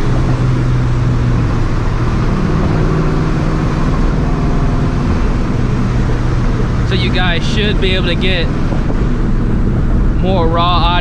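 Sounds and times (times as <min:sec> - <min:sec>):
car engine cruising: 0:00.0 - 0:11.0.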